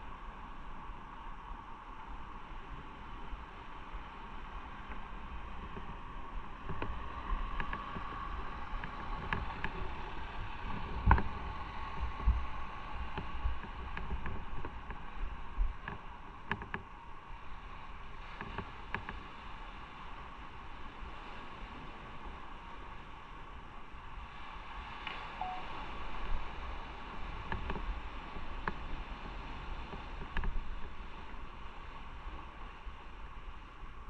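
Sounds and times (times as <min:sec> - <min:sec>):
wind noise: 0:00.0 - 0:34.0.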